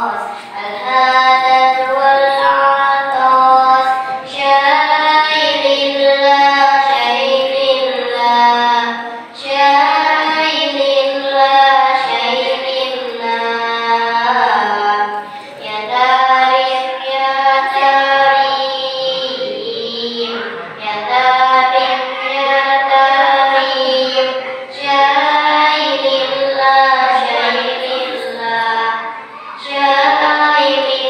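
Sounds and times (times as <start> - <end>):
child singing unaccompanied: 0.0 - 31.0.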